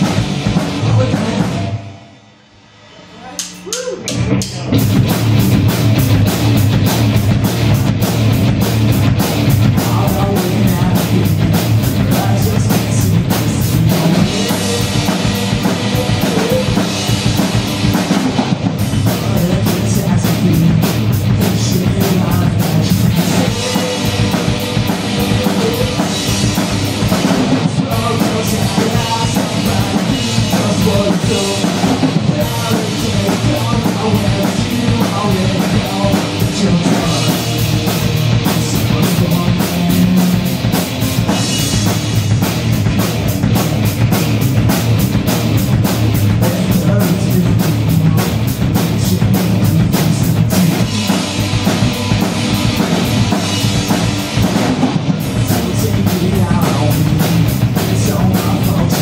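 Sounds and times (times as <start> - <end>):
drum kit beat: 0.0 - 2.2, 3.1 - 59.0
electric guitar: 3.7 - 59.0.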